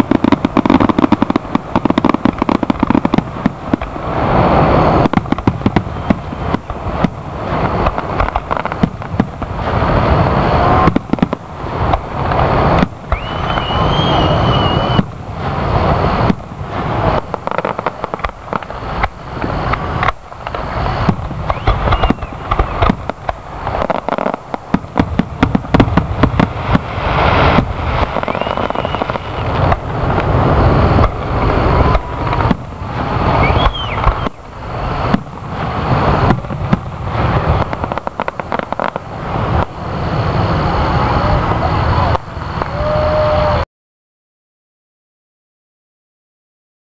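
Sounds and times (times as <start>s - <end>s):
fireworks booming and crackling: 0.0s - 43.6s.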